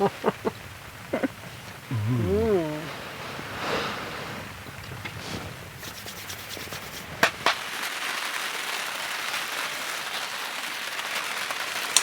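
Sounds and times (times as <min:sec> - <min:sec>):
rain on tent roof: 0:00.0 - 0:12.0.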